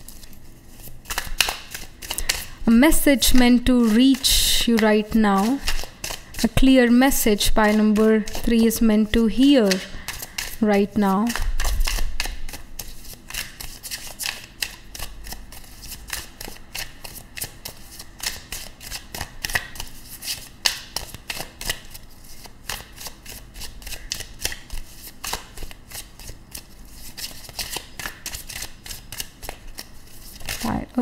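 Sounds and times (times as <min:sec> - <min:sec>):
cards shuffling: 0:00.0 - 0:30.8.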